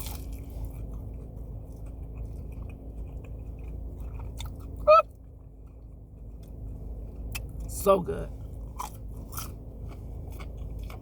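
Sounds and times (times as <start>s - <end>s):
chewing fried food: 0.0s - 11.0s
low hum: 0.0s - 11.0s.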